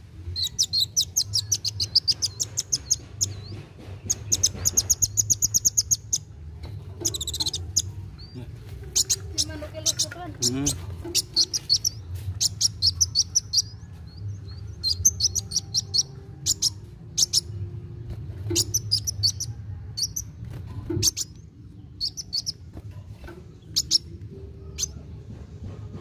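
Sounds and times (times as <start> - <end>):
bird twittering: 0.3 - 6.3, 7.0 - 13.9, 14.5 - 17.6, 18.4 - 20.3, 21.0 - 22.6, 23.6 - 25.0.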